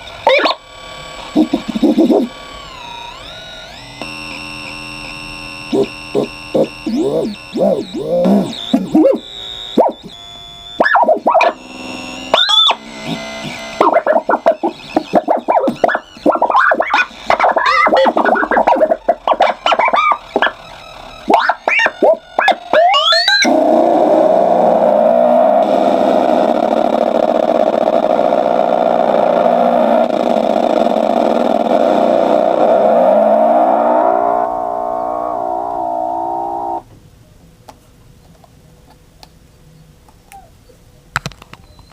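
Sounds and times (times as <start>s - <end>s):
buzzing electronic drone: 0.0s - 36.9s
glitchy pitch-bending chirps: 0.1s - 0.6s, 1.2s - 26.4s, 28.5s - 36.8s.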